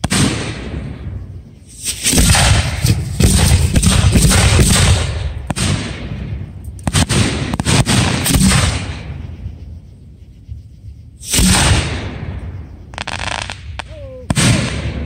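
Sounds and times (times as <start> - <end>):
fireworks bangs and crackle: 0.0 - 9.3, 11.2 - 15.0.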